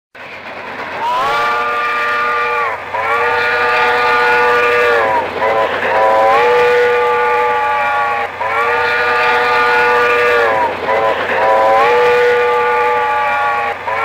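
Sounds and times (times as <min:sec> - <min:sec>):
steam hissing: 0:00.2 - 0:14.0
steam locomotive whistle blasts: 0:01.0 - 0:14.0.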